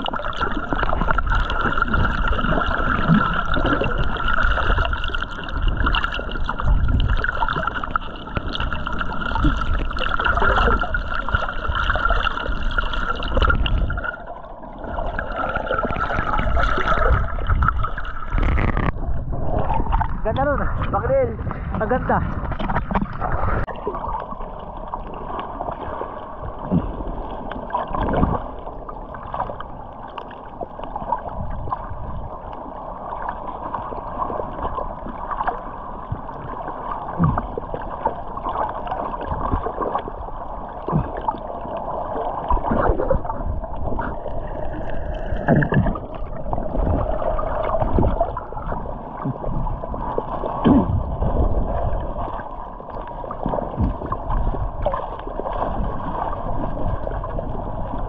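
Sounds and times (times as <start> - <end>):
bubbling: 0.0 - 58.0
muffled underwater water noise: 0.0 - 58.0.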